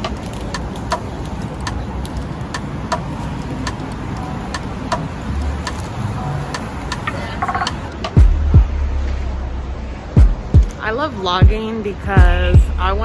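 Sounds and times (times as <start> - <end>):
sharp ticking: 0.0 - 5.9, 6.5 - 13.0
city street traffic: 0.0 - 13.0.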